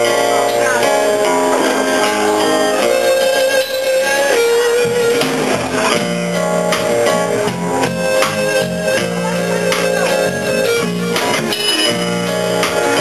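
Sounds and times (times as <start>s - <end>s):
guitar: 0.0s - 13.0s
live band music: 0.0s - 13.0s.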